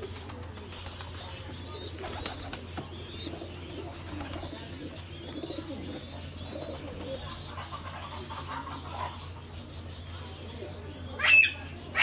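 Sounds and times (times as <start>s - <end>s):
doves cooing: 0.0s - 9.9s.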